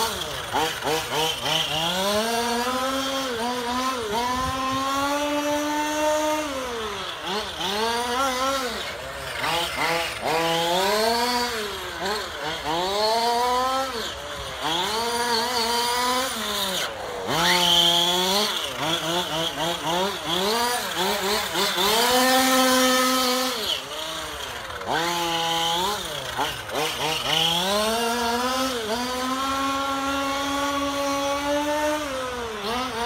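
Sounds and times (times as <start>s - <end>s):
toy car electric motor whining: 0.0s - 33.0s.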